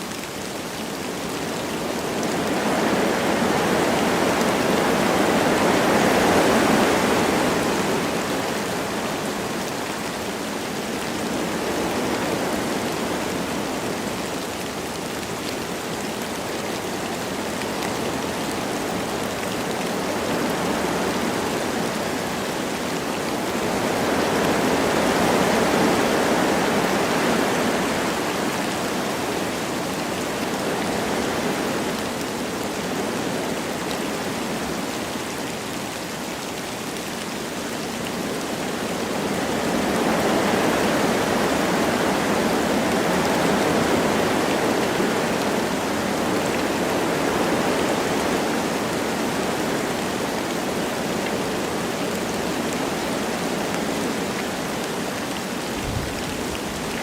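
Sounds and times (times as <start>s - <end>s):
light rain: 0.0s - 57.0s
wind through forest trees: 0.0s - 57.0s.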